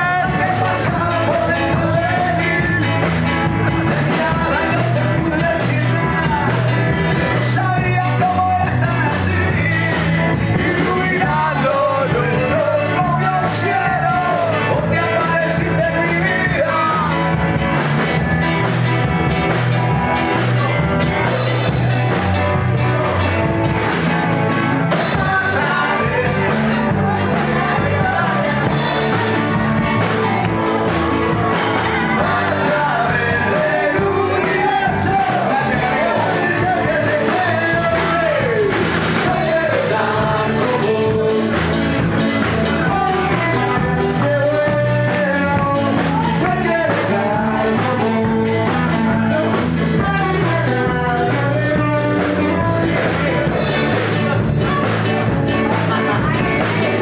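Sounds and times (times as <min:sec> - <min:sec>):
person singing: 0:00.0 - 0:18.9, 0:19.5 - 0:57.0
live band playing: 0:00.0 - 0:57.0
repeating bass line: 0:00.0 - 0:57.0.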